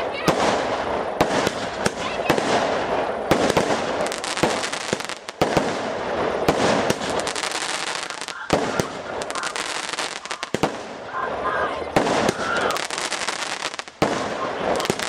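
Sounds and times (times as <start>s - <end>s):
fireworks sharp bang: 0.0s - 11.2s, 11.9s - 15.0s
fireworks crackling: 0.0s - 15.0s.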